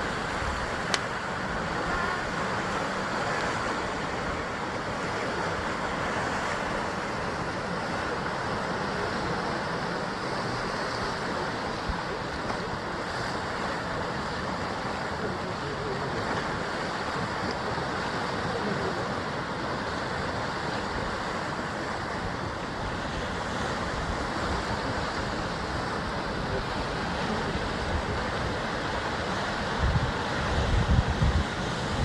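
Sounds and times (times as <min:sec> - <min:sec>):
waves breaking on rocky shore: 0:00.0 - 0:32.0
wind gusts hitting microphone: 0:00.0 - 0:32.0.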